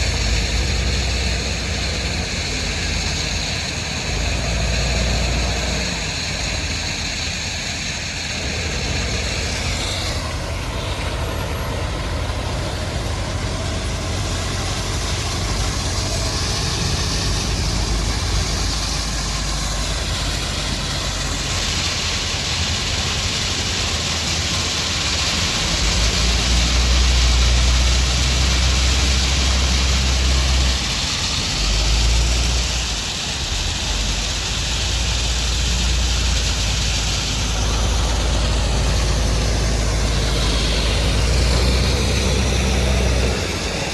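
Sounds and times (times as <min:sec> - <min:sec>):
broad hiss: 0:00.0 - 0:43.9
heavy machinery engine rumble: 0:00.0 - 0:43.9.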